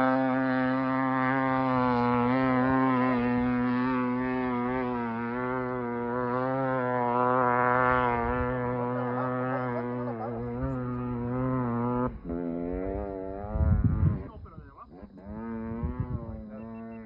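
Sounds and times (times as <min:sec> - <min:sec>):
dirt bike engine buzzing: 0:00.0 - 0:17.0.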